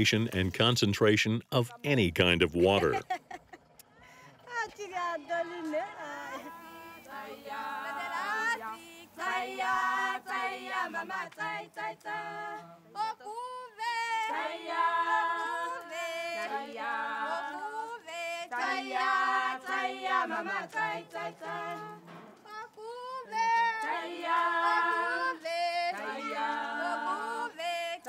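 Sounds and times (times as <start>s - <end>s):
group singing in harmony: 5.0s - 28.0s.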